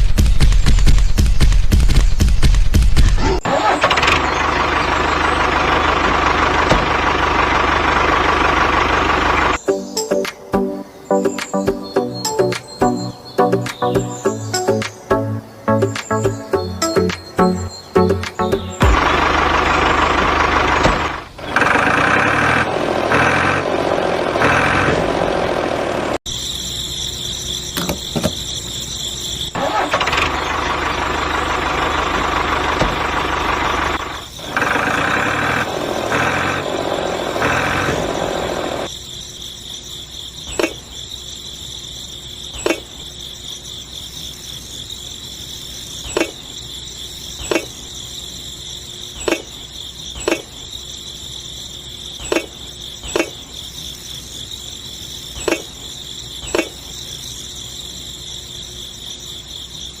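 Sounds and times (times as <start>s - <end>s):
insects chirring: 3.6s - 60.0s.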